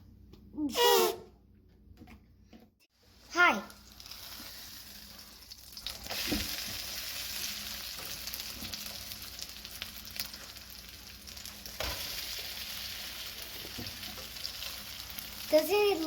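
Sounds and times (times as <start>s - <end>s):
batter sizzling in a pan: 3.0s - 16.0s.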